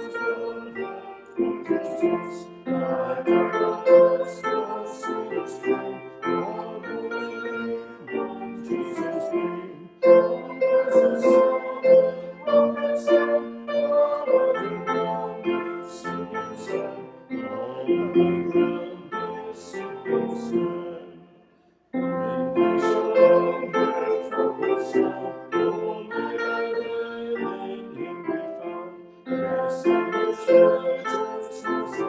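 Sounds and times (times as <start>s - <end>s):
church music on keyboard: 0.0s - 32.0s.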